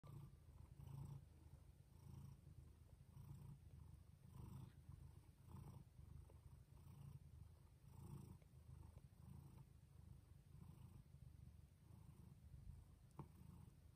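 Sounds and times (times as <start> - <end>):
cat purring: 0.0 - 13.9.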